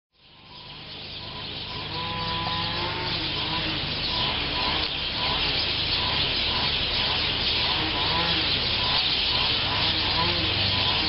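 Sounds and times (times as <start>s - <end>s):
faint bird chirps: 0.2s - 11.0s
small engine running: 0.4s - 11.0s.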